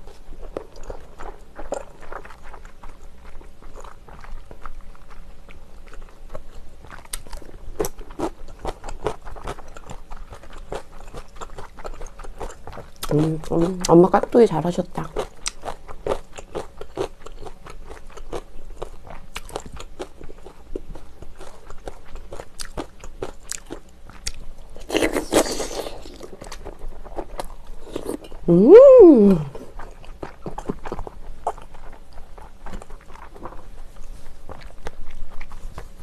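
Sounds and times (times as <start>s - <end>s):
chewing crunchy food: 0.0s - 28.5s, 29.4s - 36.0s.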